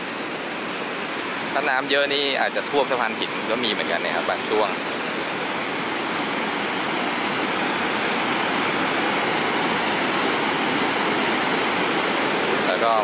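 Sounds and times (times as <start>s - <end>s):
stream water cascading over rocks: 0.0s - 13.0s.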